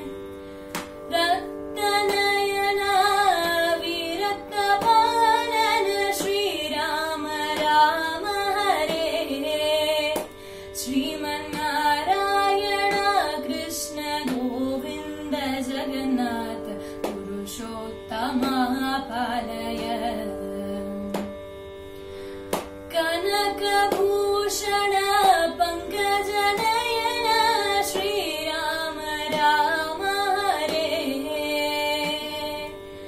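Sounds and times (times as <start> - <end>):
woman singing devotional song: 0.0 - 21.6, 22.5 - 33.0.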